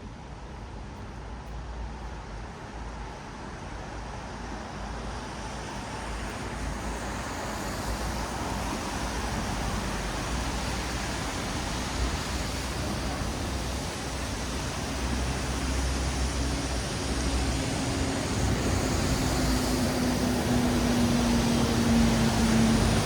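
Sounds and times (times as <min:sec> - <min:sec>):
tyres hissing on wet road: 0:03.8 - 0:23.0.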